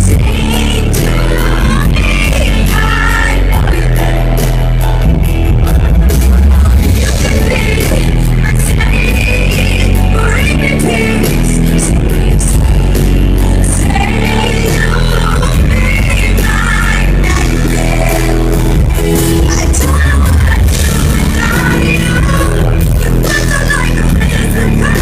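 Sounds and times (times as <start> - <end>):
heavy steady bass: 0.0 - 25.0
live pop concert music: 0.0 - 25.0
person singing: 0.0 - 25.0.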